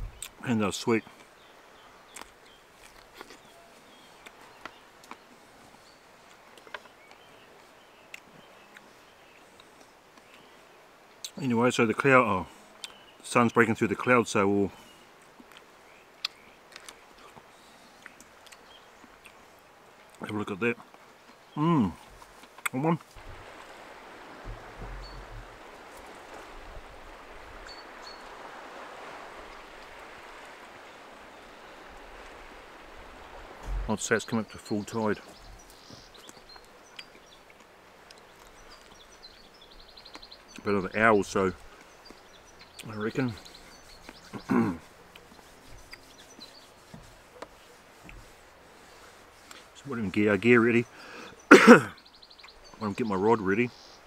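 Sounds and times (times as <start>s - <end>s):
distant sea surf: 0.0s - 45.4s
low hiss: 0.0s - 54.0s.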